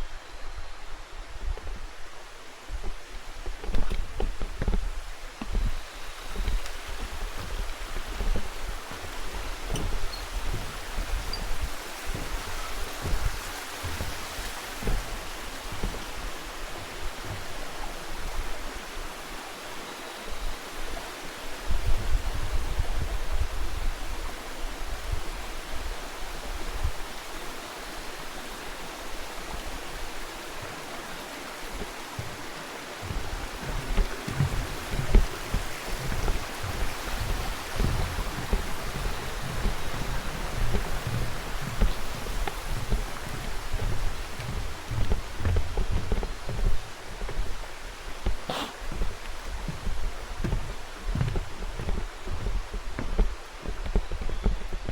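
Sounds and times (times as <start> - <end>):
stream and waterfall rushing: 0.0 - 54.7.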